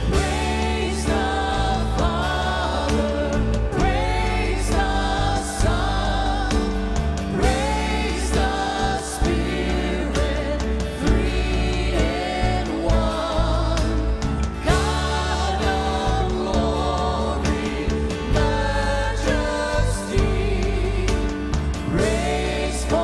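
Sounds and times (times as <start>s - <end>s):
group singing a hymn: 0.0s - 23.0s
instrumental accompaniment with bass: 0.0s - 23.0s.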